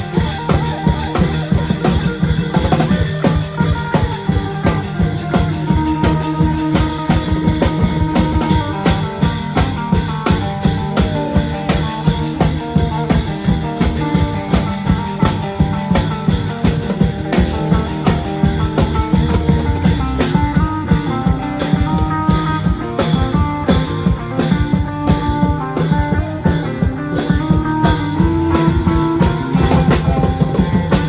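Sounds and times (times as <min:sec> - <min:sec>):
fast drum band rhythm: 0:00.0 - 0:31.0.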